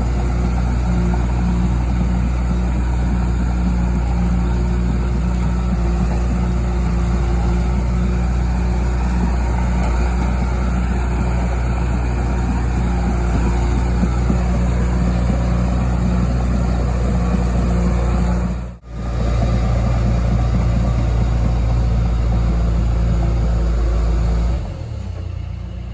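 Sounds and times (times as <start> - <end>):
diesel engine droning: 0.0 - 25.9.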